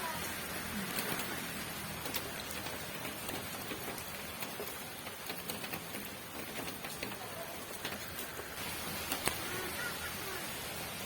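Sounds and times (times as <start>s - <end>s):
rain drops tapping on hard surface: 0.0s - 11.0s
rain hiss: 0.0s - 11.0s.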